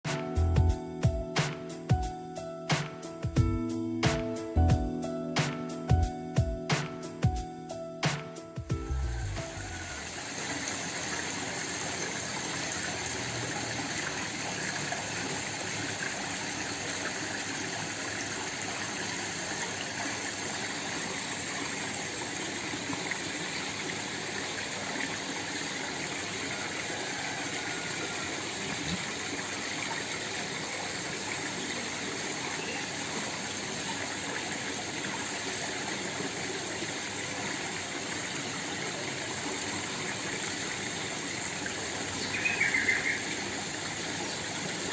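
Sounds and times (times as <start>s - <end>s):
small waterfall splashing: 8.0s - 44.9s.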